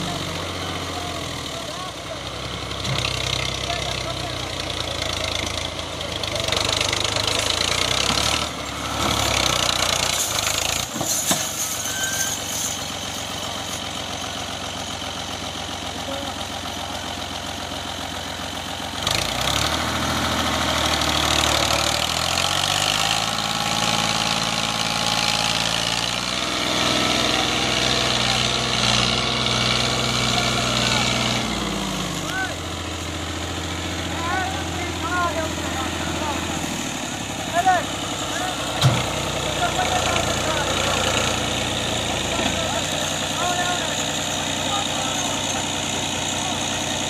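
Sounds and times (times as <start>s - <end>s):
diesel tractor engine under load: 0.0s - 47.0s.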